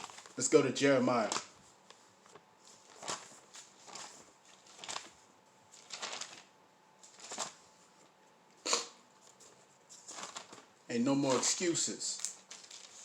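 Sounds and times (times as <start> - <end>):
book pages turning: 0.0 - 0.4, 1.1 - 7.6, 9.2 - 13.0.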